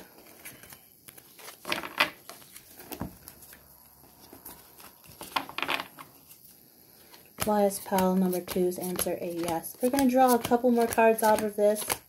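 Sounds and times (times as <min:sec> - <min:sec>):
cards being shuffled: 0:00.1 - 0:06.4, 0:07.0 - 0:12.0.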